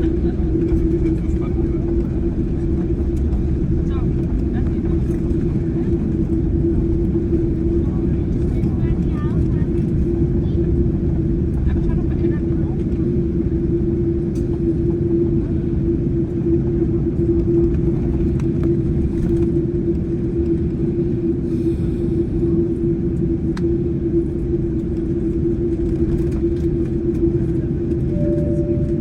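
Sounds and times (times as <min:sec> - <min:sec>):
jet engine cabin rumble: 0:00.0 - 0:29.0.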